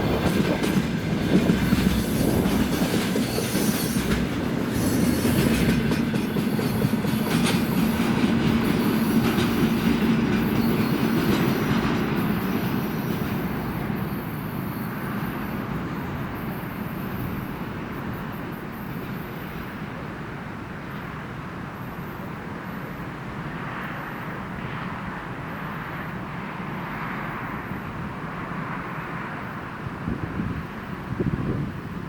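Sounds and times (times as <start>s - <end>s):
train wheels rolling on rails: 0.0s - 32.0s.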